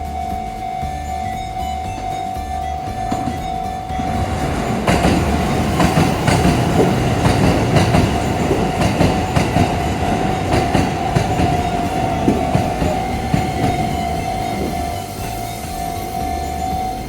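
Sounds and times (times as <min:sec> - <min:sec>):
high whine: 0:00.0 - 0:17.0
train rumble: 0:00.0 - 0:17.0
wheels clacking over rail joints: 0:00.0 - 0:17.0.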